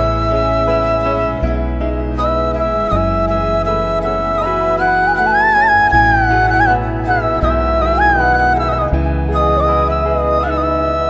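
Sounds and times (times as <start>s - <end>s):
slow melody over low chords: 0.0s - 11.0s.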